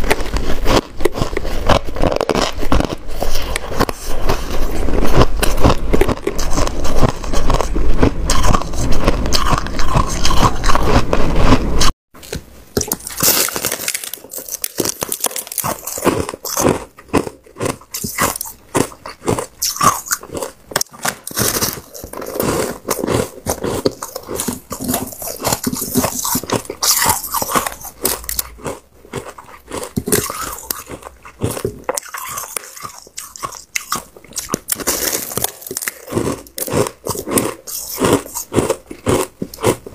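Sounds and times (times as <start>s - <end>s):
person crunching shaved ice: 0.0s - 39.9s.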